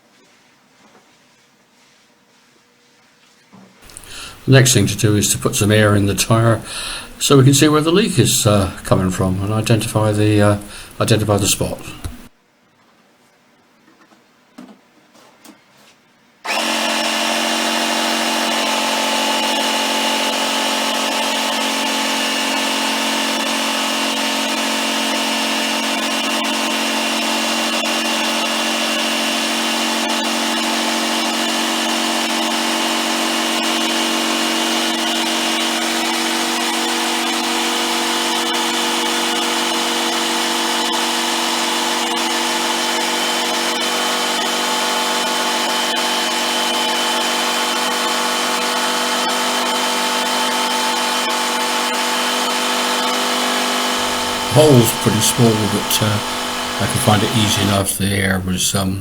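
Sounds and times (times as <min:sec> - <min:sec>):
electric air compressor running: 0:03.8 - 0:12.3, 0:16.5 - 0:57.9.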